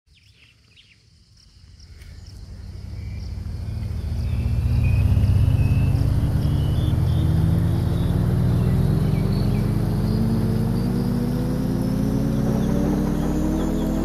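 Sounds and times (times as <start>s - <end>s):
faint high chirps: 0.1s - 14.0s
engine running: 1.6s - 14.0s.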